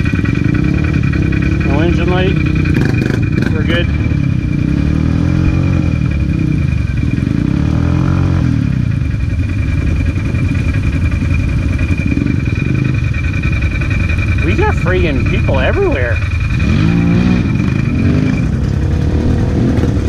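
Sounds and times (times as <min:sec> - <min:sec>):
quad bike engine revving: 0:00.0 - 0:20.0
steady high whine: 0:00.0 - 0:20.0.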